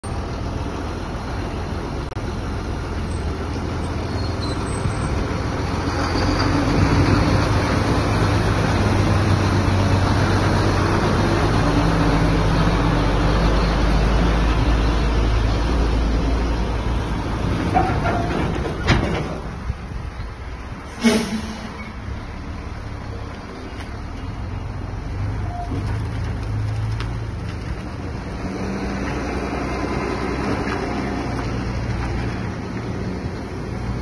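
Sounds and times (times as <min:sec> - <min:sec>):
diesel truck engine driving past: 0:00.0 - 0:34.0.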